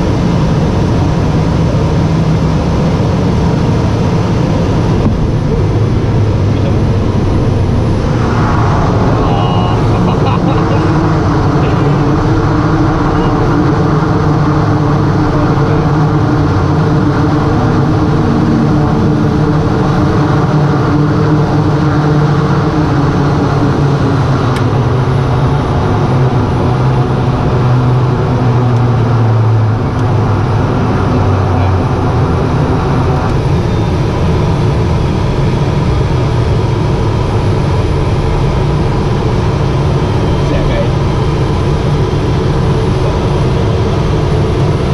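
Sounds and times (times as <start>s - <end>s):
turboprop engine drone: 0.0s - 44.9s.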